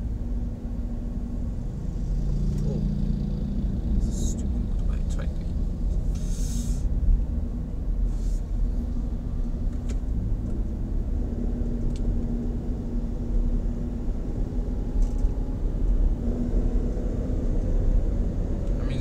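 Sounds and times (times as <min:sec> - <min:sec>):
car engine drone: 0:00.0 - 0:19.0
road rumble: 0:00.0 - 0:19.0.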